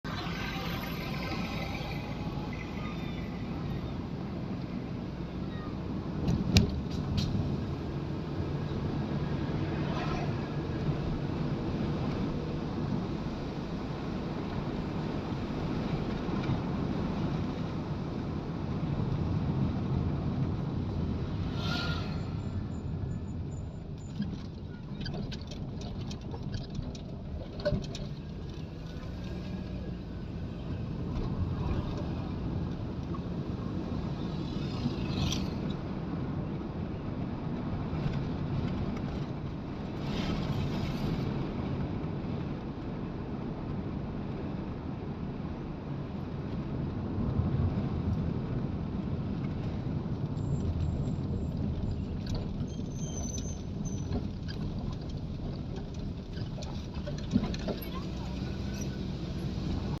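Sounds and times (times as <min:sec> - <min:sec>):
road vehicle rumbling: 0:00.0 - 1:00.0.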